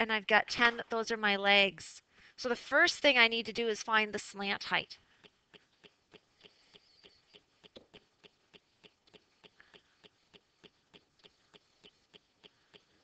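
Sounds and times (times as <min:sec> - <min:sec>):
faint steady ticking: 0:02.0 - 0:13.0.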